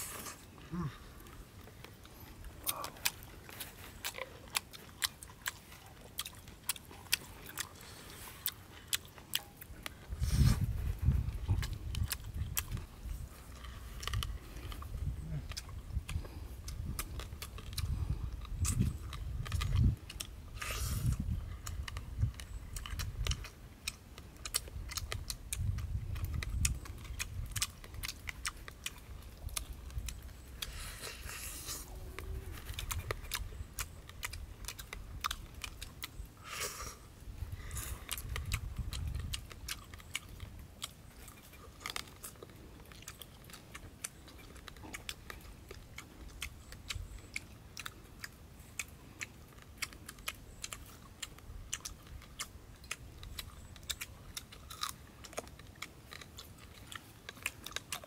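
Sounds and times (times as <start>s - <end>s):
person chewing and biting food: 0.0s - 58.0s.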